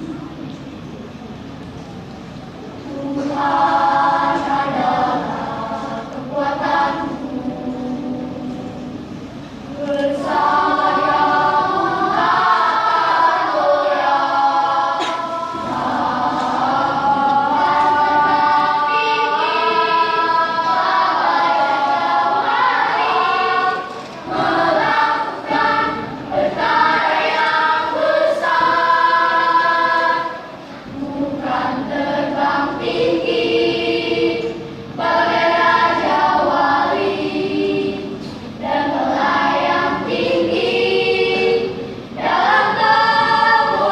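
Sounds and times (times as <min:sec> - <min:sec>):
children's choir singing: 0:00.0 - 0:43.9.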